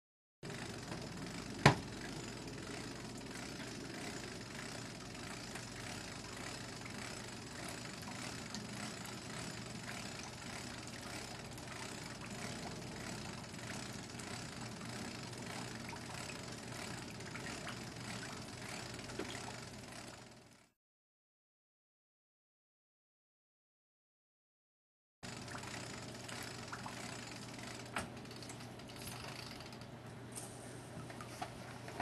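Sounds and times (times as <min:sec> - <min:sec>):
low mechanical hum: 0:00.4 - 0:20.8, 0:25.2 - 0:32.0.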